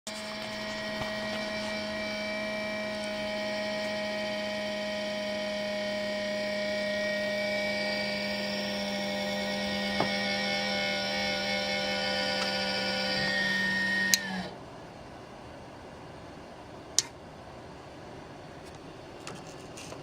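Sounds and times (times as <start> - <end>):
machine hum and whine: 0.1 - 20.0.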